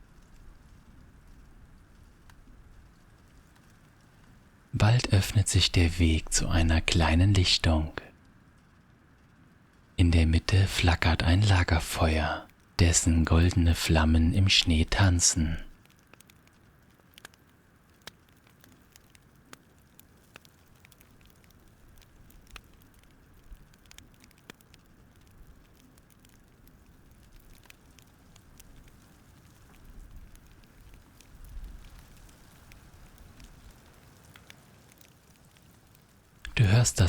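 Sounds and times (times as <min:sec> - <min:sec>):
campfire crackling and popping: 0:00.0 - 0:37.0
low rumble of flames: 0:00.0 - 0:37.0.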